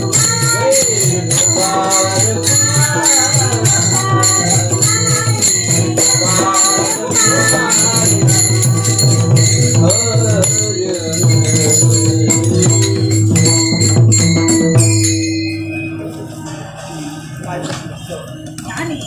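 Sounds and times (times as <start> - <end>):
metal hand cymbals clashing: 0.0 - 17.5.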